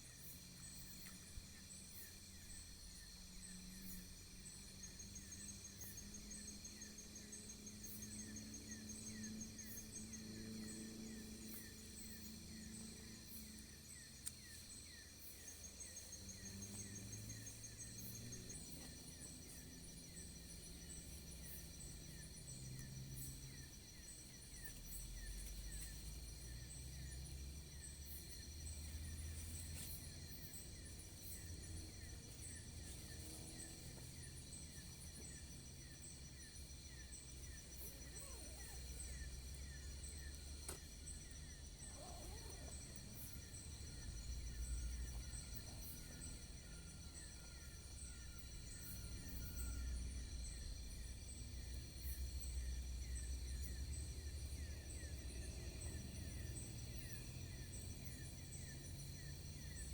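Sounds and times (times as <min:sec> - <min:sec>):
insects chirping in trills: 0:00.0 - 0:59.9.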